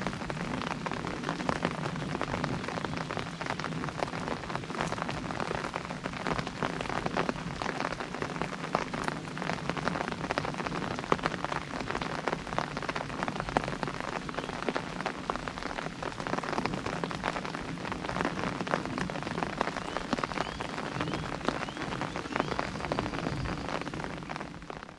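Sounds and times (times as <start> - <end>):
rain pattering on an umbrella: 0.0 - 24.9.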